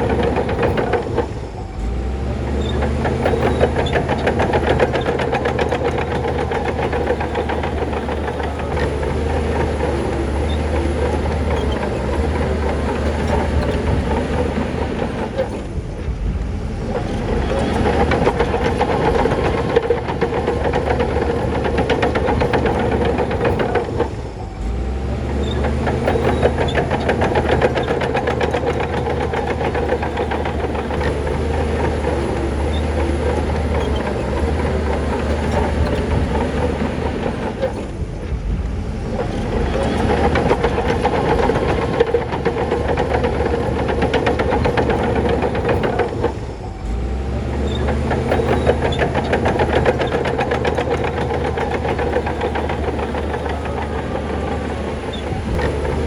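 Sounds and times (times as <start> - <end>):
diesel earthmoving machinery running: 0.0 - 56.0
metallic clatter: 0.0 - 56.0.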